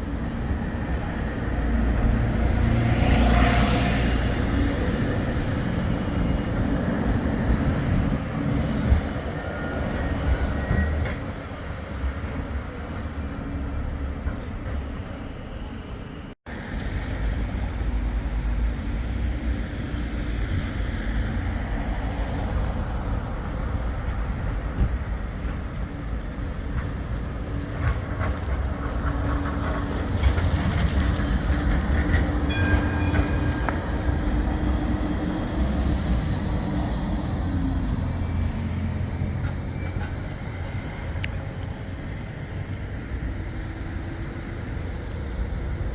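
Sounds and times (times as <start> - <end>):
tram wheels rumbling on rails: 0.0 - 45.9.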